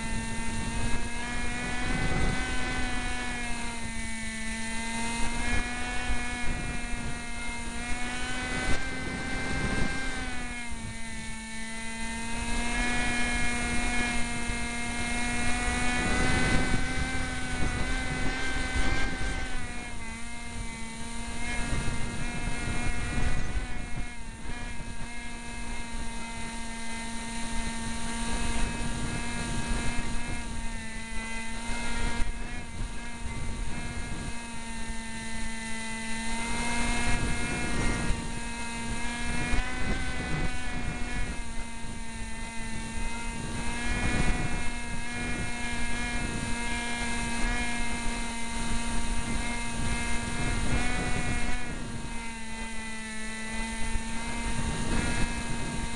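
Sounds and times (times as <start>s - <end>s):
model plane motor whining: 0.0s - 55.9s
wind rumbling on microphone: 0.0s - 55.9s.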